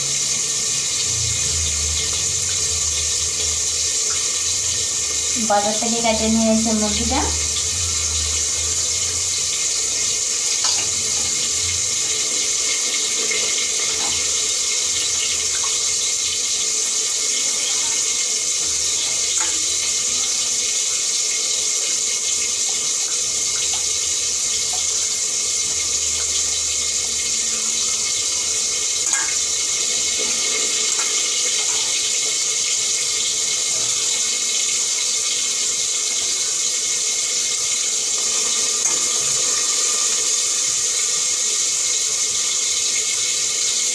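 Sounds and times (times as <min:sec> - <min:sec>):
water running from tap: 0:00.0 - 0:43.9.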